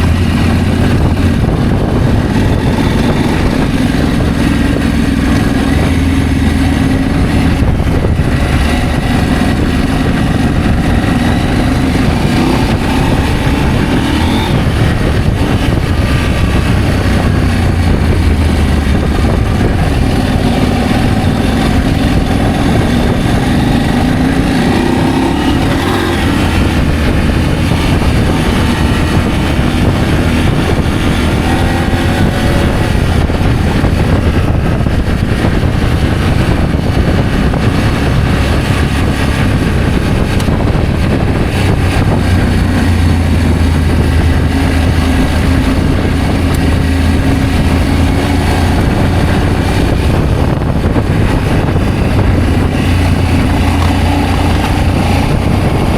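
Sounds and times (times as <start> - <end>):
motorcycle engine running: 0.0 - 55.9
wind noise: 0.0 - 55.9.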